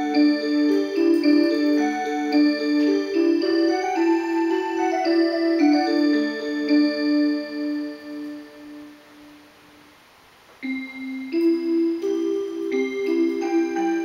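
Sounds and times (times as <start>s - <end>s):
musical wall clock melody: 0.0s - 9.8s, 10.6s - 14.0s.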